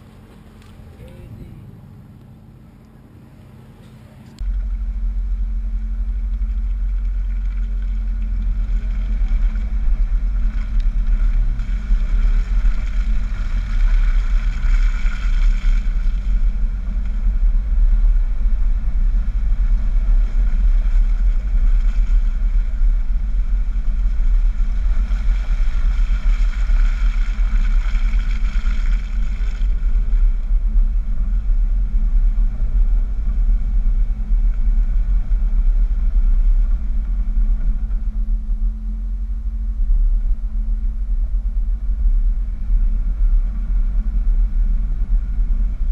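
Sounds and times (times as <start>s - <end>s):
engine and tyres rumbling: 0.0s - 45.9s.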